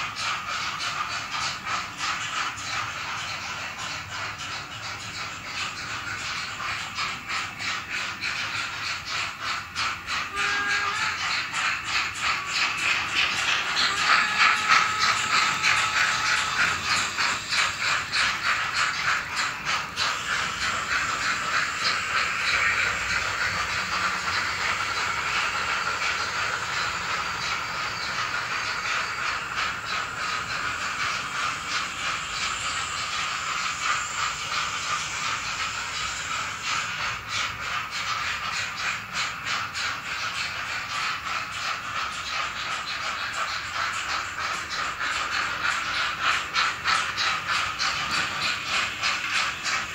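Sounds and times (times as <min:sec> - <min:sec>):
model train wheels rattling: 0:00.0 - 0:49.9
wheels clicking over rail joints: 0:00.0 - 0:49.9.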